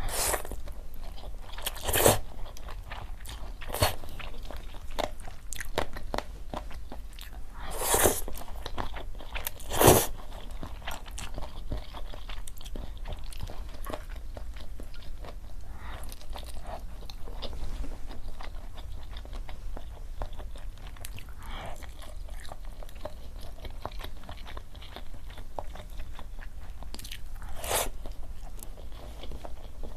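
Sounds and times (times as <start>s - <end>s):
person chewing: 0.0s - 17.5s, 18.1s - 29.9s.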